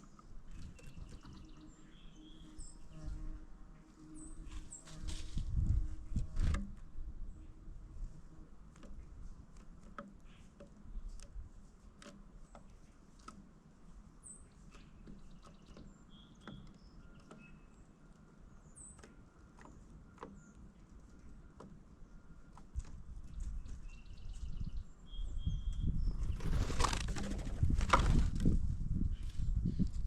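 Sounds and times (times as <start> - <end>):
birds pecking and landing: 2.3 - 24.6, 25.8 - 30.0.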